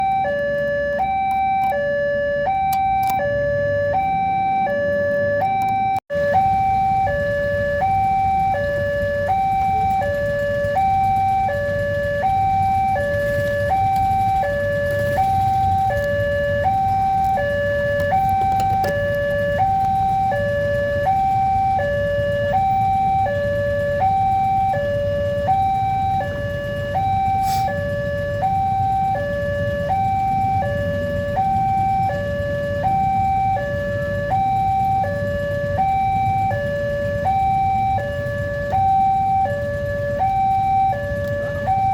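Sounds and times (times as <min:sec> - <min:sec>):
level crossing two-tone alarm: 0:00.0 - 0:41.9
vehicle engines idling: 0:00.0 - 0:41.9.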